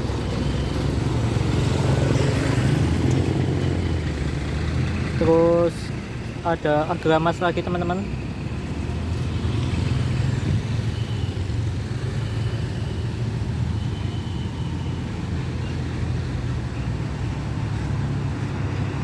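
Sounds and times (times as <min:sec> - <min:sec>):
vehicle engines droning in traffic: 0:00.0 - 0:19.0.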